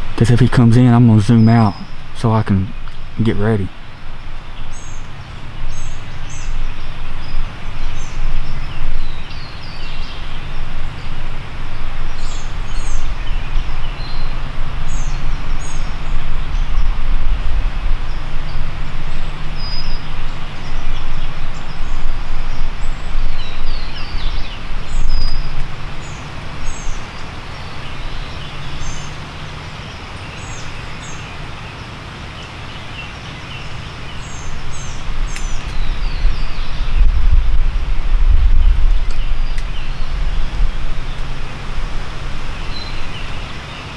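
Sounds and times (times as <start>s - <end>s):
wind buffeting microphone: 0.0s - 31.5s, 33.6s - 43.9s
songbirds chirping: 0.0s - 43.9s.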